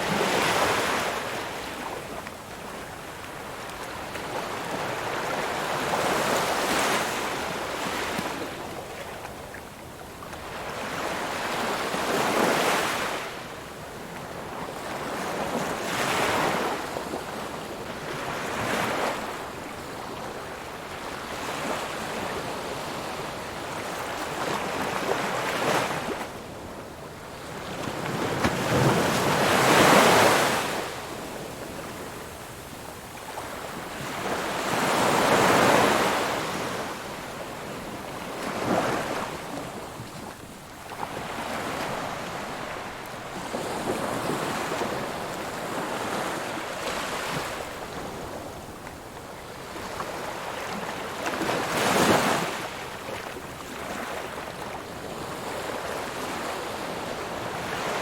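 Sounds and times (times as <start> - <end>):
ocean waves breaking on beach: 0.0 - 9.5, 10.3 - 58.0.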